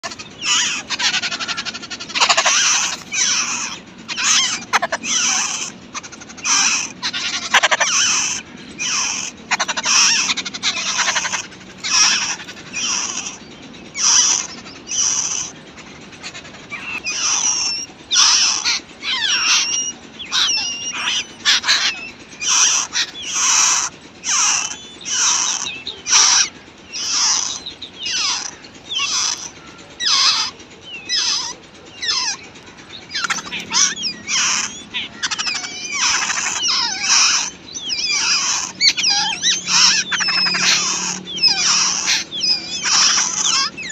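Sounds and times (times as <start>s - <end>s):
nestlings begging calls: 0.0s - 43.9s.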